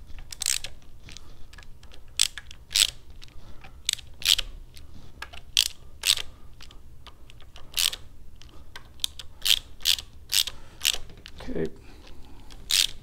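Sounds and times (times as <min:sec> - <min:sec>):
hand ratchet clicking: 0:00.1 - 0:11.4, 0:12.5 - 0:13.0.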